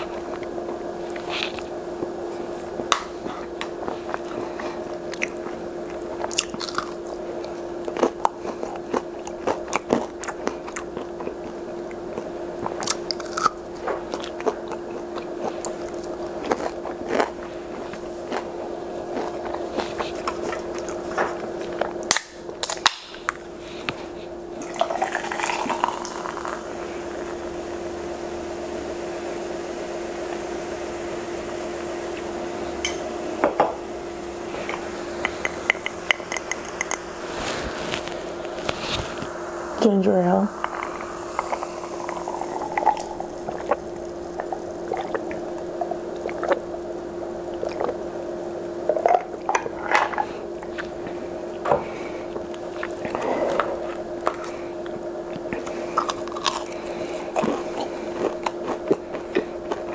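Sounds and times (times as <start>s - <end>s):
person chewing food: 0.0s - 27.6s, 34.4s - 39.7s, 40.5s - 48.1s, 48.8s - 59.9s
steady low hum: 0.0s - 59.9s.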